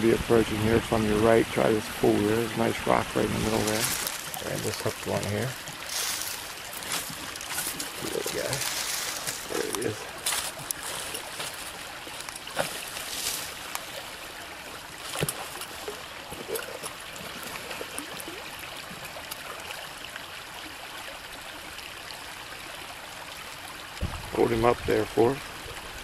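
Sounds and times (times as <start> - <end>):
rocky stream trickling: 0.0 - 26.0.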